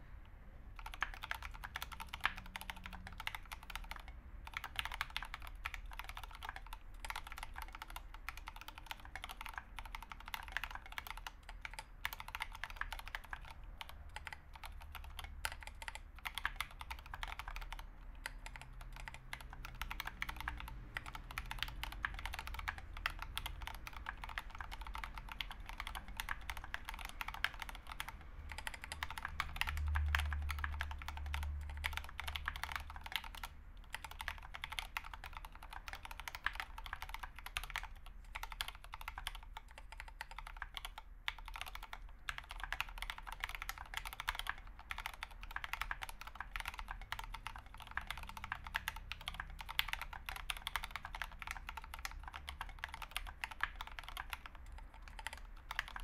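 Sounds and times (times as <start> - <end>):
mechanical keyboard typing: 0.7 - 56.0.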